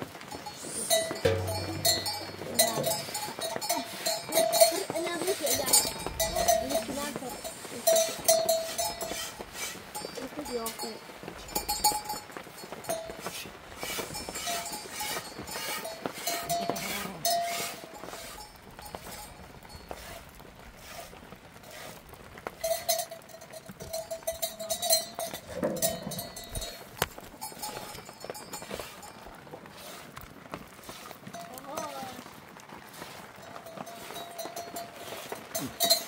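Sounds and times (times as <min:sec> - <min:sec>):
goat bell clinking: 0:00.3 - 0:13.3, 0:14.0 - 0:20.1, 0:22.4 - 0:29.4, 0:31.3 - 0:32.2, 0:33.4 - 0:36.0.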